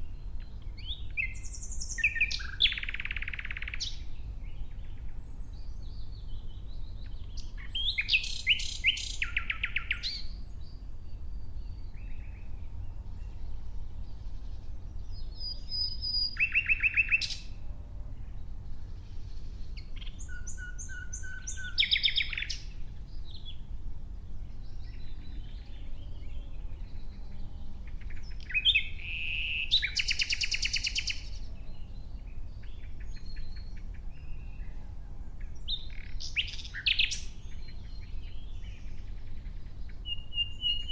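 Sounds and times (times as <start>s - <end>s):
faint bird calls: 0.0s - 5.9s, 11.6s - 23.6s, 24.4s - 40.9s
nightingale singing: 0.0s - 17.7s, 18.3s - 23.7s, 24.3s - 34.8s, 35.4s - 40.9s.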